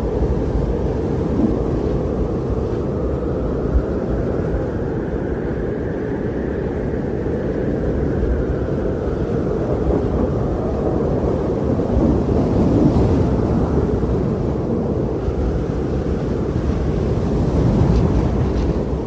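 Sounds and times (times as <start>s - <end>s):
low rushing wind: 0.0s - 19.0s.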